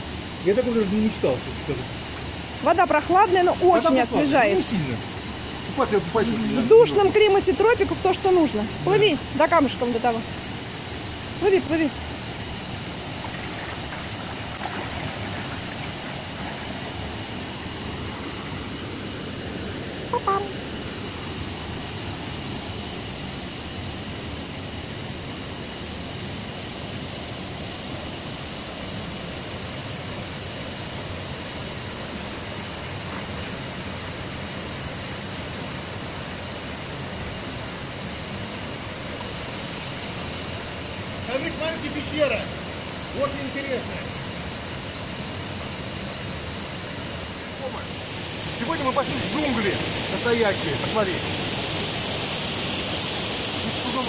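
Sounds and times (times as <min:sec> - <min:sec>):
waterfall rushing: 0:00.0 - 0:25.5, 0:29.6 - 0:54.0.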